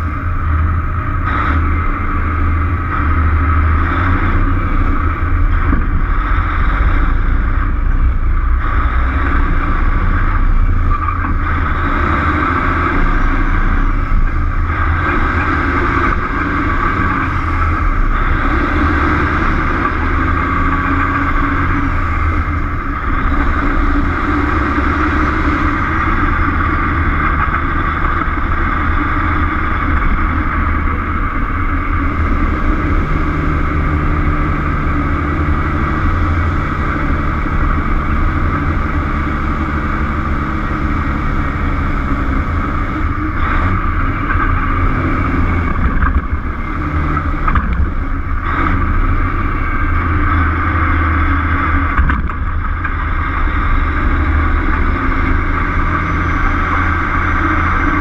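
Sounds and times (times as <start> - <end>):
road noise: 0.0 - 58.0
truck diesel engine running: 0.0 - 58.0.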